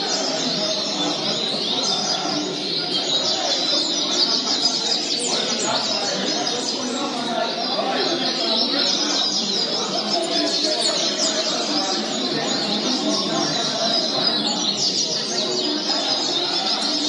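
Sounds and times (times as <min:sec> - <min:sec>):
birds chirping: 0:00.0 - 0:17.0
low murmur of voices: 0:00.0 - 0:17.0.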